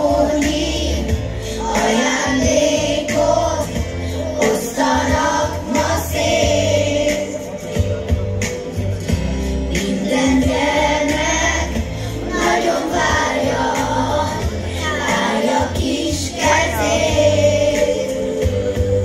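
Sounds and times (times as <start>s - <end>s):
children singing together: 0.0s - 7.6s, 9.7s - 19.0s
instrumental backing music: 0.0s - 19.0s.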